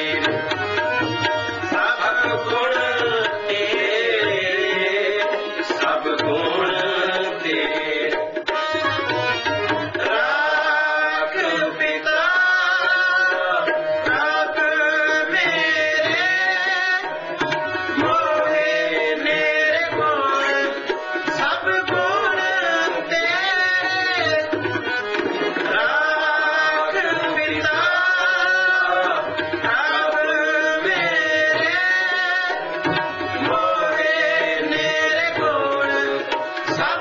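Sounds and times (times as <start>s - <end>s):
harmonium melody: 0.0s - 37.0s
tabla playing steady rhythm: 0.0s - 37.0s.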